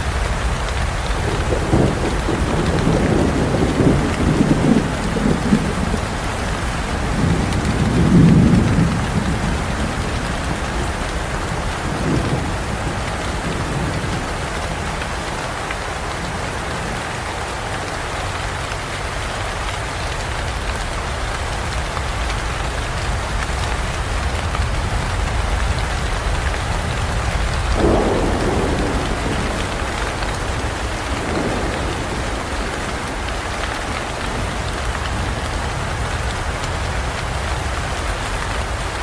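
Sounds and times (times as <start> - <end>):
rolling thunder: 0.0 - 18.6, 23.1 - 39.0
heavy rain: 0.0 - 39.0.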